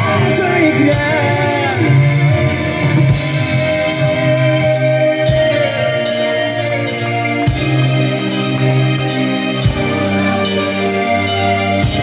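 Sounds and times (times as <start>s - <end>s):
bass guitar: 0.0s - 12.0s
drum kit: 0.0s - 12.0s
electric guitars: 0.0s - 12.0s.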